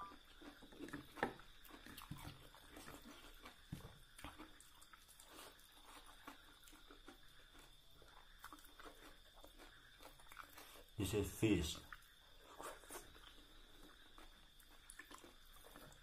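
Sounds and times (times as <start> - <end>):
chewing and mouth smacks: 0.0 - 11.0, 11.8 - 16.0.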